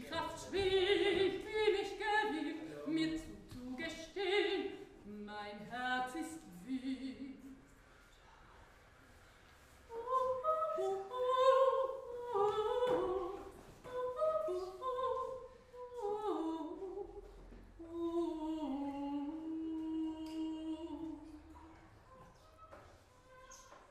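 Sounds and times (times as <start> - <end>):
woman singing unaccompanied: 0.0 - 7.6, 9.9 - 21.6.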